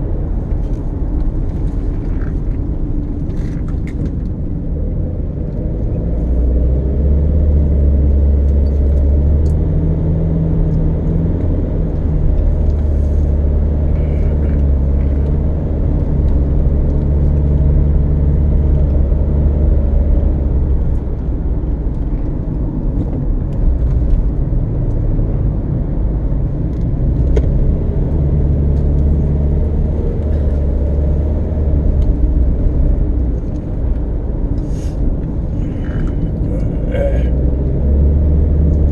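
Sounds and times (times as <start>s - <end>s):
car engine and tyre drone: 0.0s - 38.9s.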